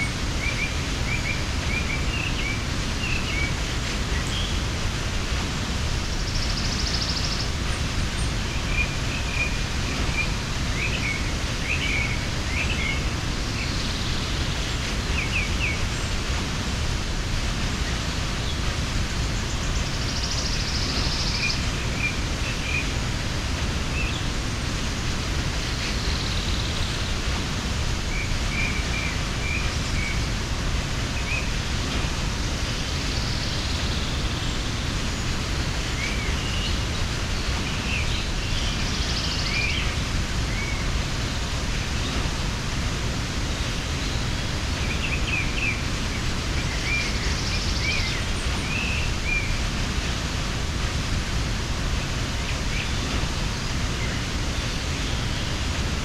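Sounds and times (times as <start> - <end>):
small birds chirping: 0.0 - 56.0
waterfall rushing: 0.0 - 56.0.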